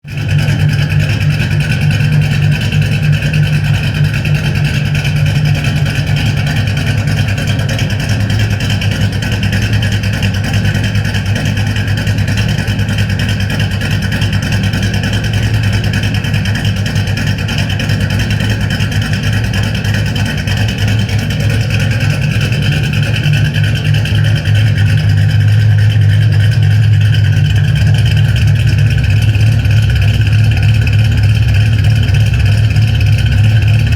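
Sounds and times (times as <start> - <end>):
car exhaust drone: 0.0 - 33.9.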